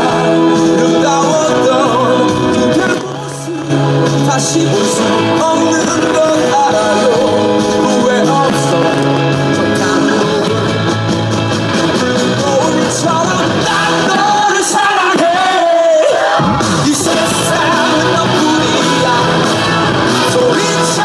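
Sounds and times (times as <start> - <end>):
pop song playing loudly: 0.0 - 21.0.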